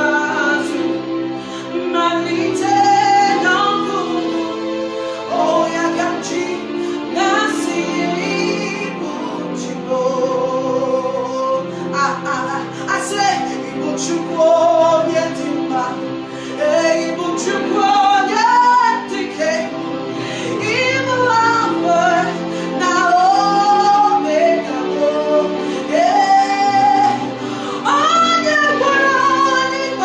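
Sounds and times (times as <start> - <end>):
sustained instrumental chords: 0.0 - 30.0
woman singing slow worship song: 0.0 - 30.0.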